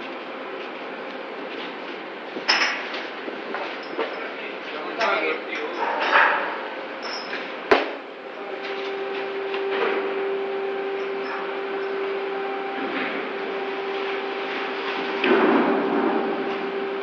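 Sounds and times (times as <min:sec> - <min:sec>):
crane hoist humming: 0:00.0 - 0:17.0.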